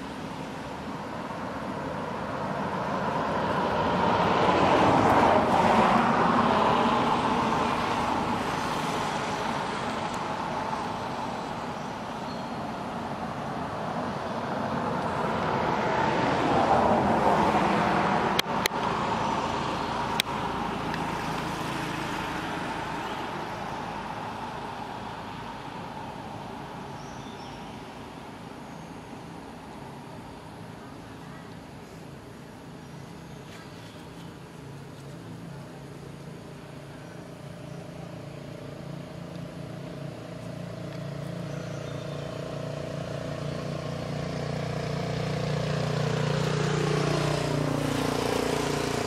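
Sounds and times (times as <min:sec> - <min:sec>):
vehicles passing: 0:00.0 - 0:49.0.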